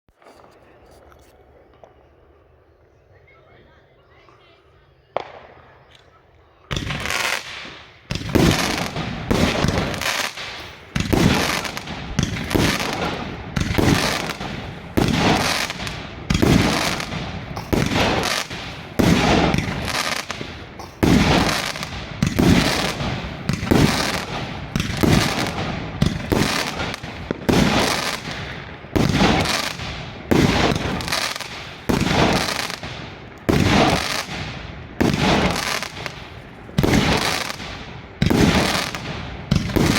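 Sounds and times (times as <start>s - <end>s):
firework bangs: 5.2s - 5.7s, 6.7s - 39.9s.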